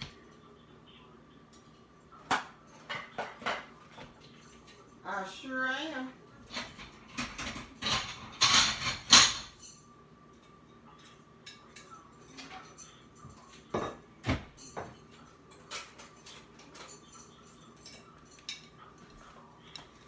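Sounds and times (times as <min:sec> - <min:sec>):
utensils and dishes clattering: 0:01.5 - 0:20.0
dishes clinking and knocking: 0:01.6 - 0:04.8, 0:06.4 - 0:19.3.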